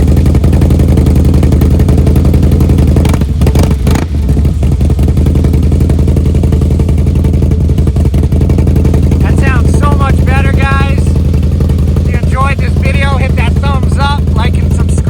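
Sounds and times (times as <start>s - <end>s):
motorcycle engine running loudly: 0.0s - 15.0s.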